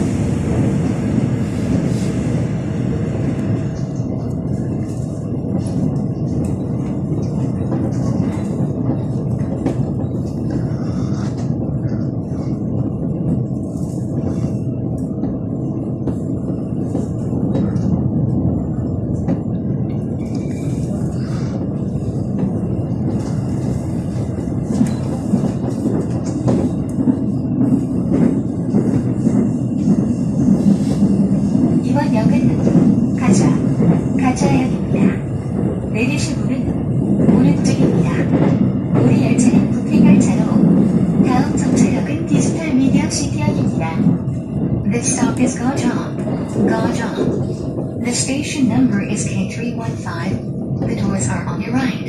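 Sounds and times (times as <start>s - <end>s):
train carriage rumble: 0.0s - 52.0s.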